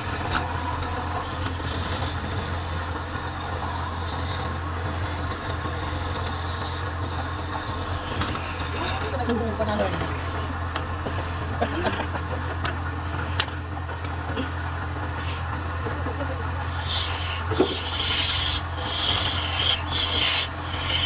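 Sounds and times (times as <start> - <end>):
chisel scraping spinning wood: 0.0 - 12.2, 15.0 - 21.0
wood lathe motor hum: 0.0 - 14.2, 14.8 - 21.0.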